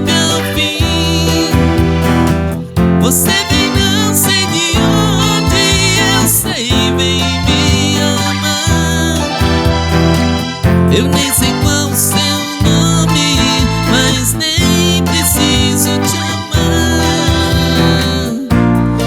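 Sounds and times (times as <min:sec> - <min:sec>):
song with singing over instruments: 0:00.0 - 0:19.0.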